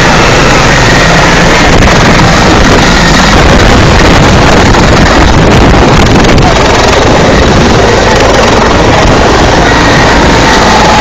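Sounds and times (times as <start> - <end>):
helicopter rotor and turbine: 0.0 - 11.0
rotor downwash buffeting microphone: 0.0 - 11.0.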